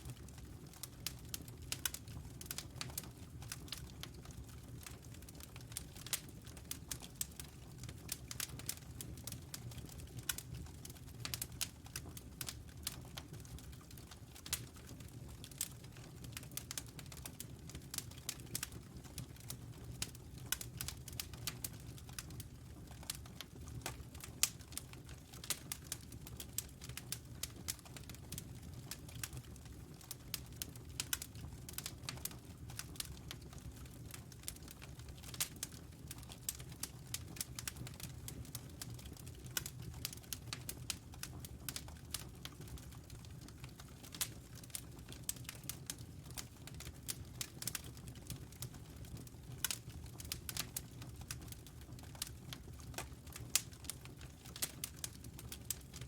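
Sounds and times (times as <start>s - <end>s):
burning logs crackling and popping: 0.0s - 56.0s.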